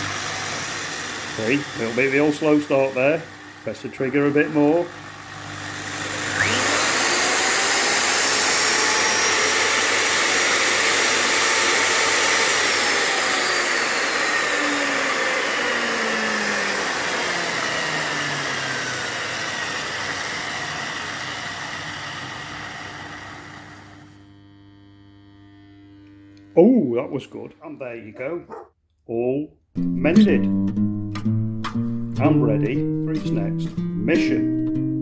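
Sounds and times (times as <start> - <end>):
mixer motor whining: 0.0 - 28.6.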